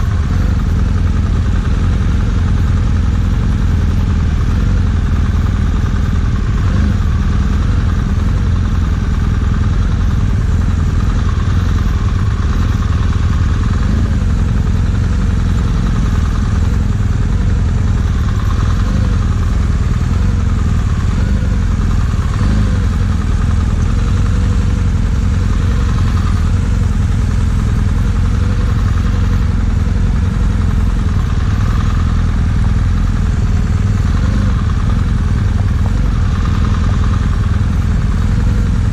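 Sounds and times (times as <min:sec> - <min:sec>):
motorcycle engine running slowly: 0:00.0 - 0:38.9.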